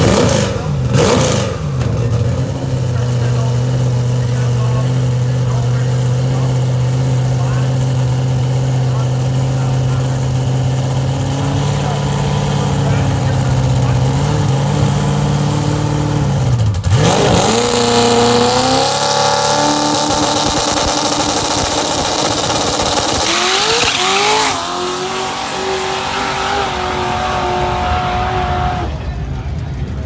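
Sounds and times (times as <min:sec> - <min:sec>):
truck engines at full throttle: 0:00.0 - 0:30.0.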